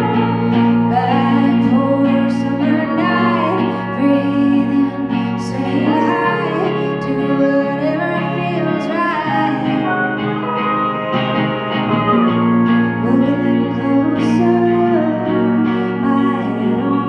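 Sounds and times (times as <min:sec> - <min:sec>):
woman singing: 0:00.0 - 0:10.3, 0:12.9 - 0:17.0
guitar accompaniment: 0:00.0 - 0:17.0.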